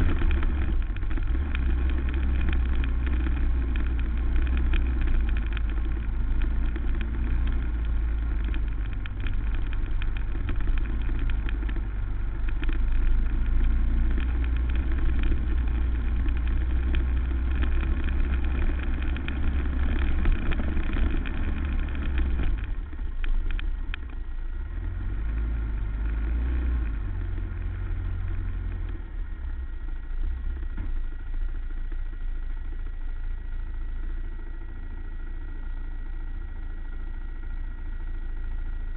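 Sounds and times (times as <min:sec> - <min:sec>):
quad engine rumbling: 0:00.0 - 0:38.9.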